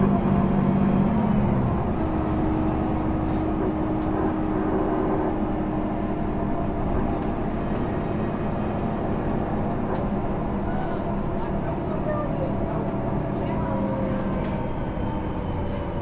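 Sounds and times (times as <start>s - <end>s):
bus engine drone with whine: 0.0s - 16.0s.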